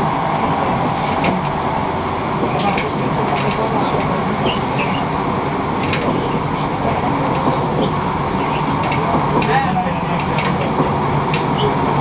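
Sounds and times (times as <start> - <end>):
train running inside carriage: 0.0 - 12.0.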